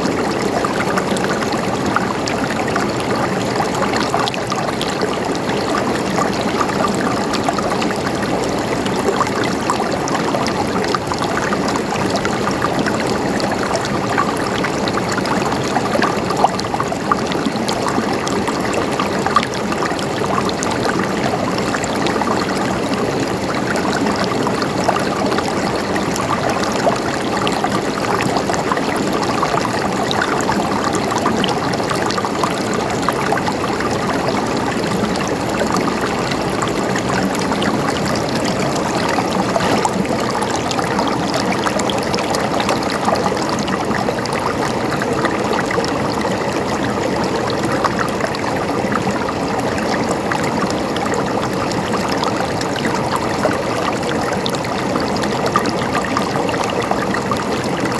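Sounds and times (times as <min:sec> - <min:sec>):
stream water gurgling: 0:00.0 - 0:57.9.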